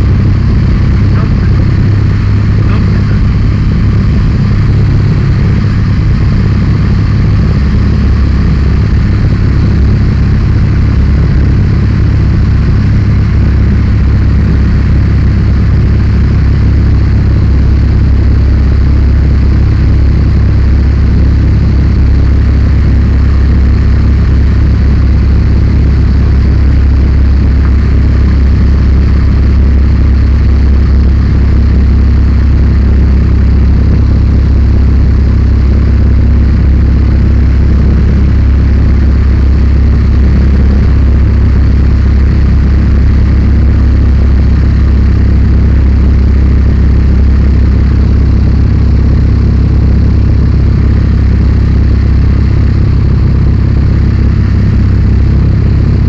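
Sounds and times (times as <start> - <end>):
light aircraft engine humming: 0.0 - 56.0
rushing air: 0.0 - 56.0.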